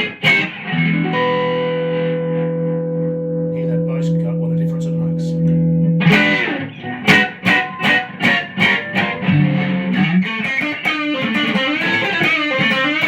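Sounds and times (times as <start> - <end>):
electric guitar through amplifier: 0.0 - 13.0.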